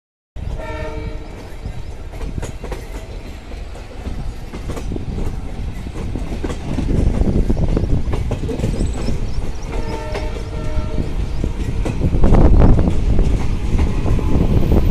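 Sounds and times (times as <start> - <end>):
train rumble and air rush: 0.4 - 14.9
wheels clicking over rail joints: 1.2 - 14.9.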